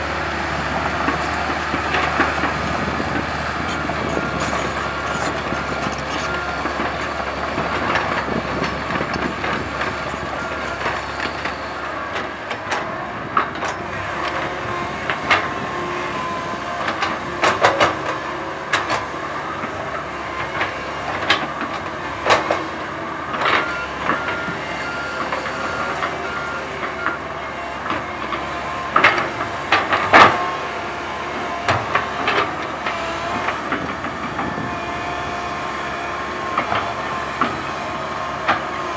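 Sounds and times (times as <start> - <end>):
excavator engine and hydraulics: 0.0 - 38.9
metallic clanks of tracks and bucket: 0.7 - 38.9.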